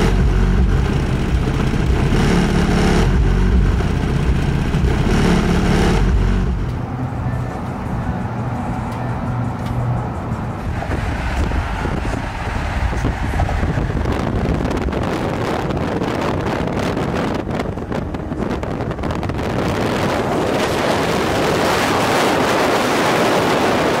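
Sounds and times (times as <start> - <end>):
wind rushing over microphone: 0.0 - 8.8, 10.1 - 24.0
tyre and road roar: 0.0 - 24.0.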